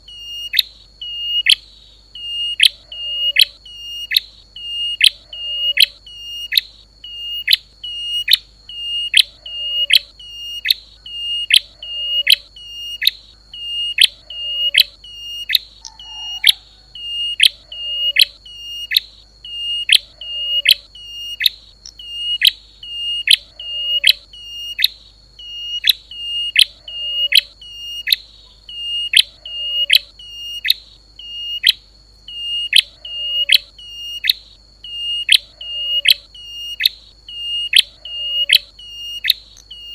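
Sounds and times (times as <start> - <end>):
songbird short high call: 2.2 - 39.9.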